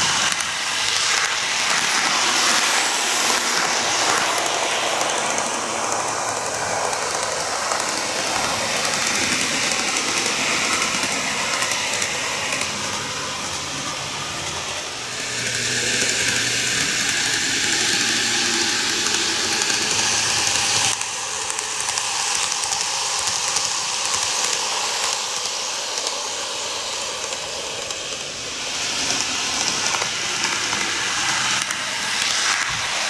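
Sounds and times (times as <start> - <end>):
model train motor and wheels whirring: 0.0 - 33.0.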